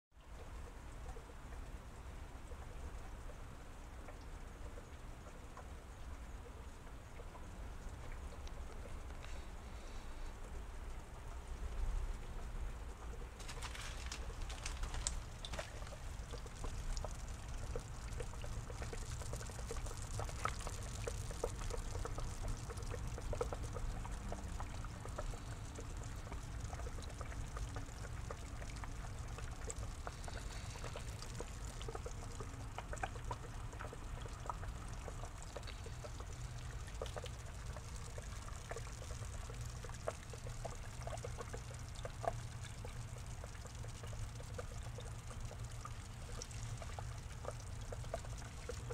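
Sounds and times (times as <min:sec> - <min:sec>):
low steady hum: 0:00.2 - 0:48.9
water drips and plops: 0:00.2 - 0:48.9
water trickling into pond: 0:00.2 - 0:48.9.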